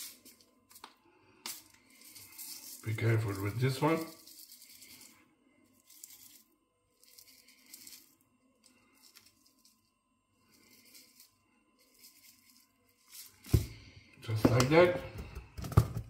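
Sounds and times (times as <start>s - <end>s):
salt sprinkling on chicken: 0.0s - 13.6s.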